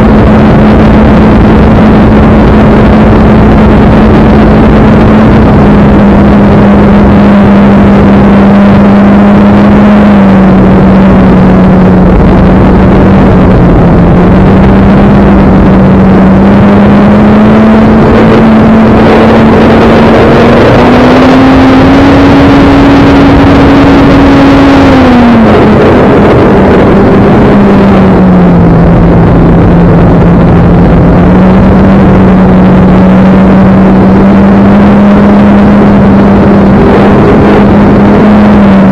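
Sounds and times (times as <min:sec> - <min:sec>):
rushing noise: 0:00.0 - 0:38.9.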